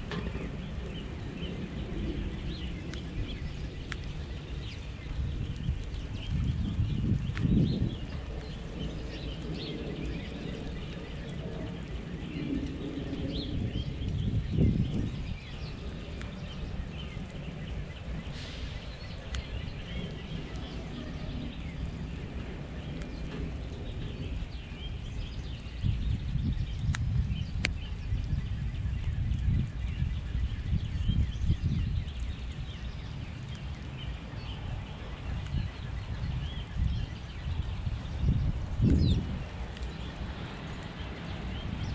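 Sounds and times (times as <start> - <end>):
low rumble: 0.0 - 41.9
small birds chirping: 0.0 - 41.9.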